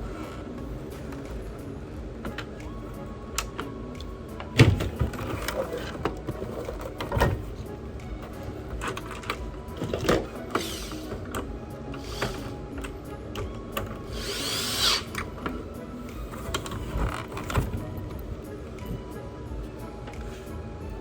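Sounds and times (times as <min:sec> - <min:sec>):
faint background music: 0:00.0 - 0:21.0.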